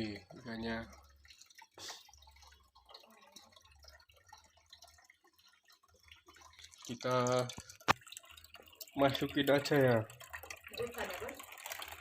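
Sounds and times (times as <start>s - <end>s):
faint water dripping: 0.0s - 12.0s.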